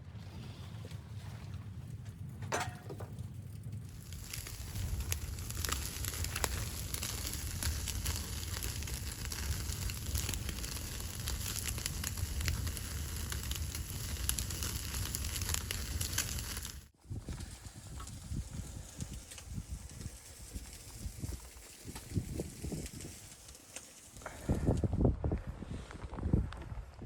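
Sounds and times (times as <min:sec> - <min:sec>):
wood fire crackling and popping: 0:02.2 - 0:24.9.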